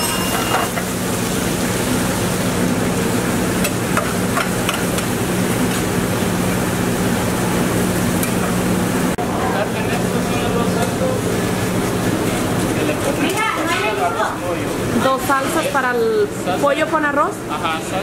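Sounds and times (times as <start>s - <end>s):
exhaust fan humming: 0.0s - 18.0s.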